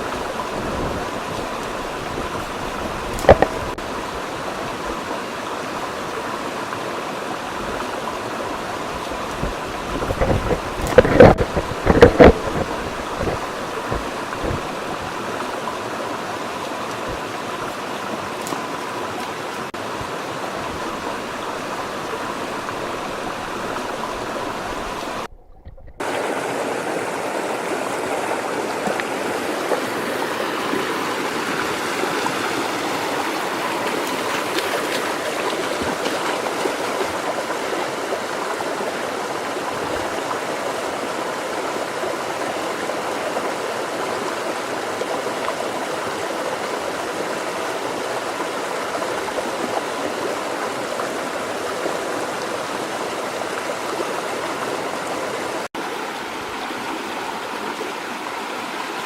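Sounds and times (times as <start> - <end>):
river water rushing: 0.0 - 25.4, 26.0 - 59.0.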